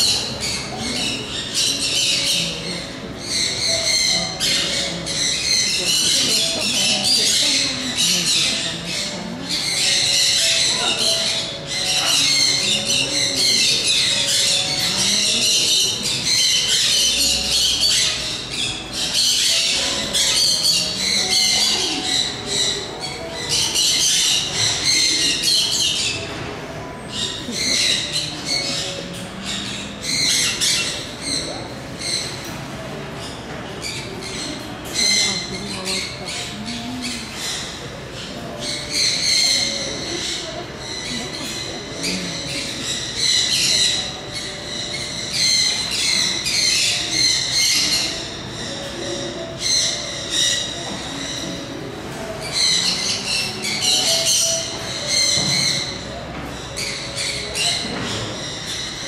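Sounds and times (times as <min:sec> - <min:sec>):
birds squawking and chirping: 0:00.0 - 0:59.0
faint human voices: 0:00.0 - 0:59.0.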